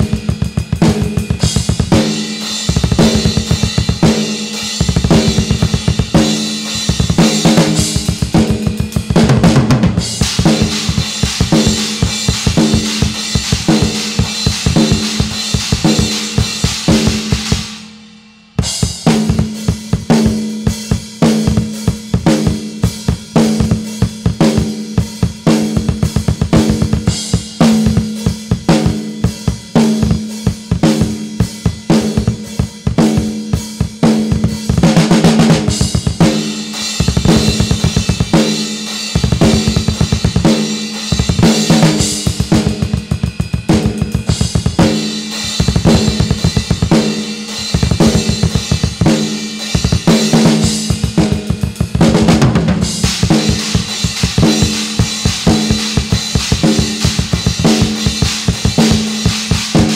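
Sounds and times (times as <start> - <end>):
rapid double-kick bass drum runs: 0.0 - 17.7, 18.6 - 59.9
drum kit playing metal beat: 0.0 - 59.9.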